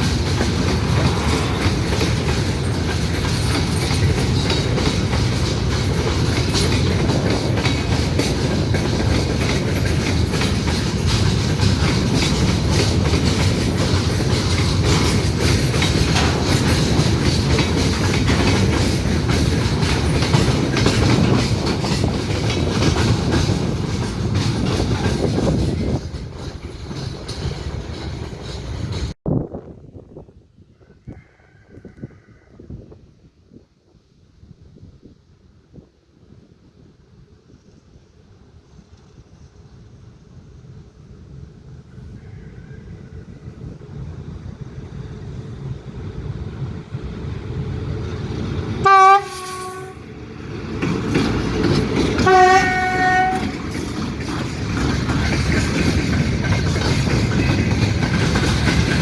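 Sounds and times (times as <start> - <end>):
train wheels clicking over rails: 0.0 - 29.2, 37.4 - 59.0.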